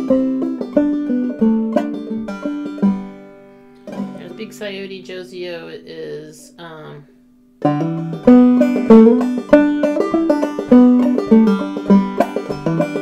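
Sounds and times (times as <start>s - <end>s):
banjo playing: 0.0s - 5.6s, 7.6s - 13.0s.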